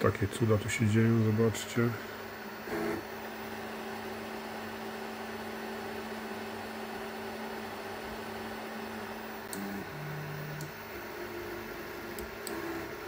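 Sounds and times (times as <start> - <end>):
printer mechanical hum: 0.0 - 13.0.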